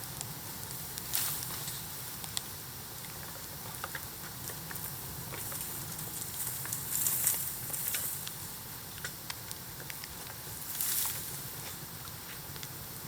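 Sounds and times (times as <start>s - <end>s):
bonfire crackling and popping: 0.0s - 13.0s
fire hissing: 0.0s - 13.0s.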